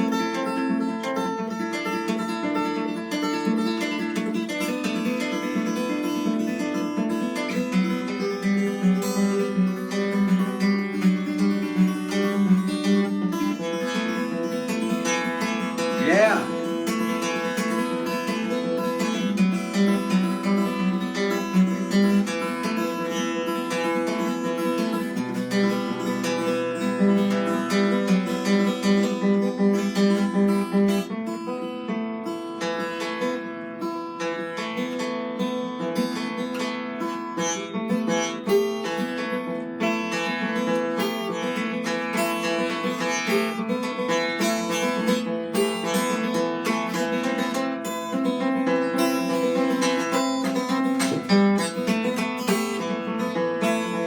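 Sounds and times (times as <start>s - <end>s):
plucked string instrument: 0.0s - 54.0s.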